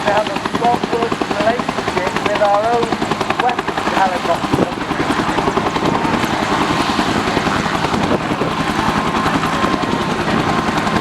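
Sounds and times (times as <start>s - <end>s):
faint steady whine: 0.0s - 11.0s
helicopter rotor blades chopping: 0.0s - 11.0s.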